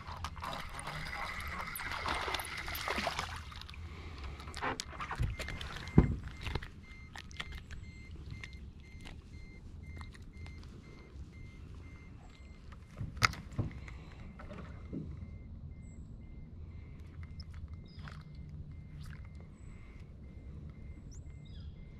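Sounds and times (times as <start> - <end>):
rapid electronic beeping: 0.0 - 3.2, 4.9 - 13.0, 14.8 - 21.9
steady low rumble: 0.0 - 21.9.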